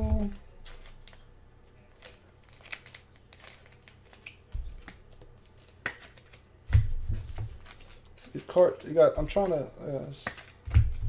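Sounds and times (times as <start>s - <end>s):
cards being handled and sorted: 0.0s - 11.0s.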